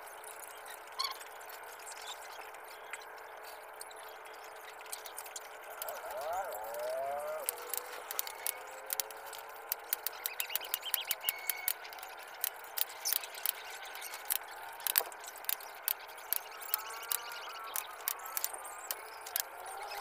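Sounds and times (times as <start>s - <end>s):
wire mesh clicking and rattling: 0.4s - 20.0s.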